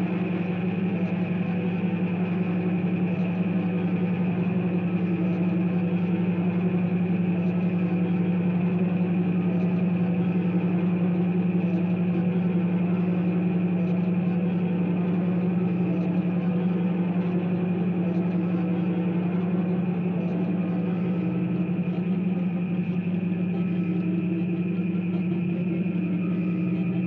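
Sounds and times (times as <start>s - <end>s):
low electronic drone: 0.0s - 27.0s.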